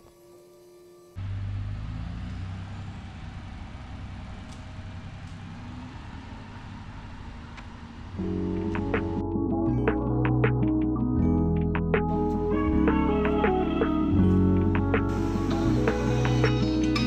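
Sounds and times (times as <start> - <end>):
diesel engine rumbling: 1.2 - 17.0.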